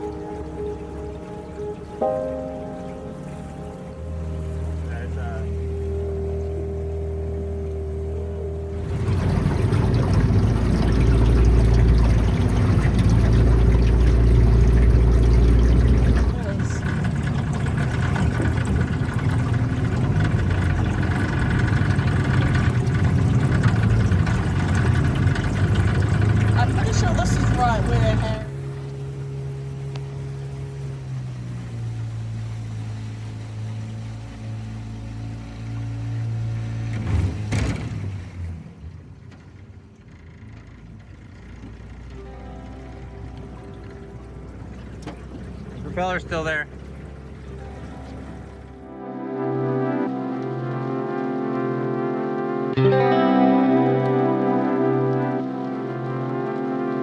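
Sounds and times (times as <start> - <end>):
boat engine rumble: 0.0 - 57.0
water splashing against hull: 0.0 - 57.0.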